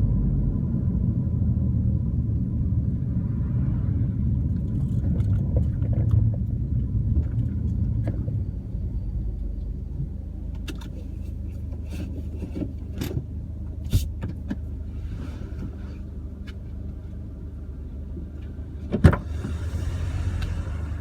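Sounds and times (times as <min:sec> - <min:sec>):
car road rumble: 0:00.0 - 0:21.0.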